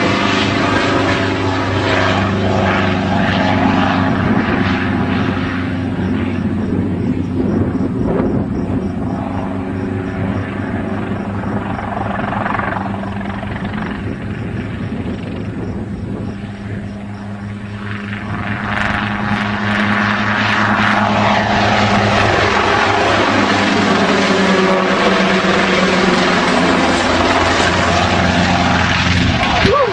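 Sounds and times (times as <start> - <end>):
helicopter engine and rotor: 0.0 - 29.9.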